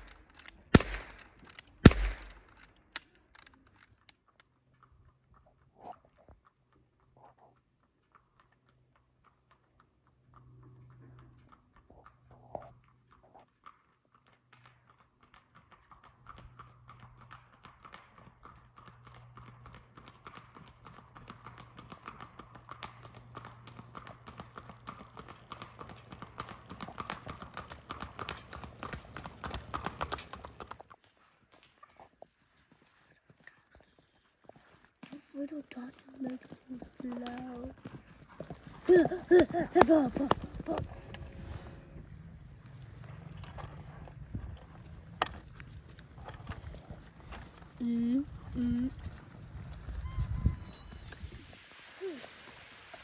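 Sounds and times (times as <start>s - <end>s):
horse hooves clip-clopping on pavement: 0.0s - 53.0s.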